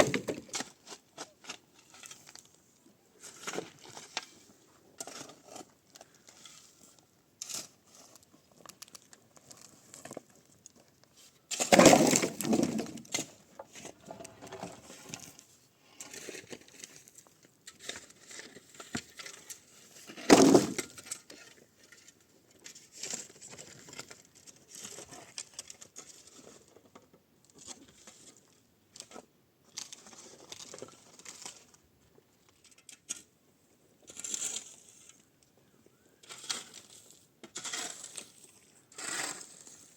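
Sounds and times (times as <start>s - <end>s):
rustling and crinkling handling noise: 0.0s - 39.9s.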